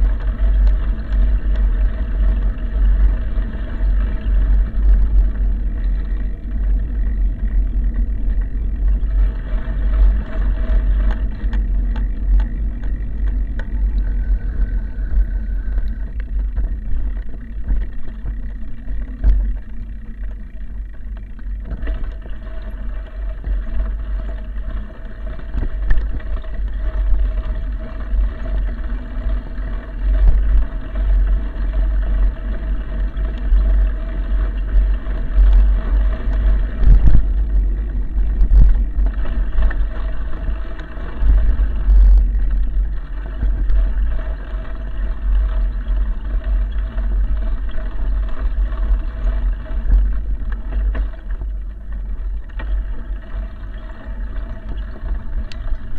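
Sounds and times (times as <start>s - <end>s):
vehicle hum: 0.0s - 55.9s
wind buffeting microphone: 0.0s - 55.9s.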